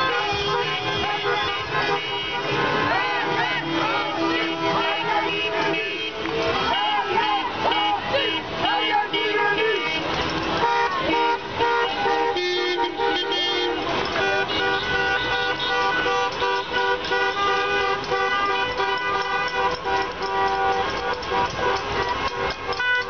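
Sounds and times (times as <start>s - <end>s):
car horns honking: 0.0s - 23.0s.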